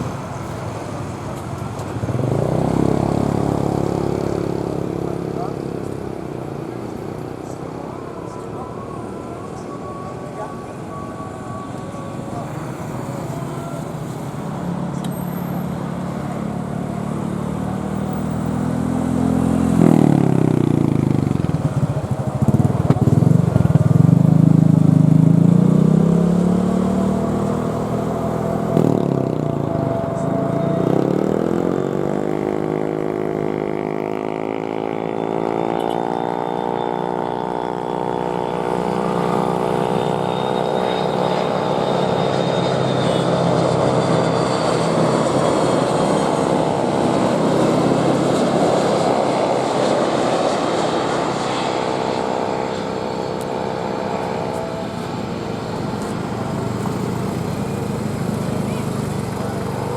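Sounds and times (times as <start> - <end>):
jet engines passing: 0.0 - 59.9.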